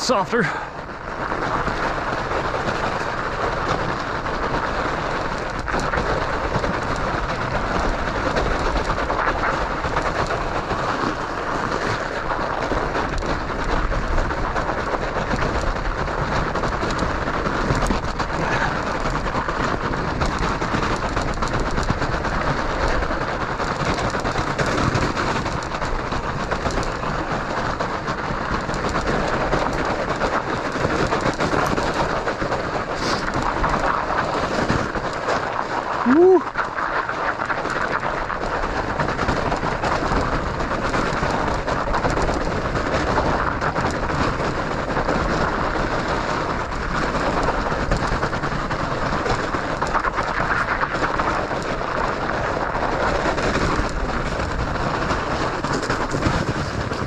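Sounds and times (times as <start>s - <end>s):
bike tires rushing over snow: 0.0s - 57.0s.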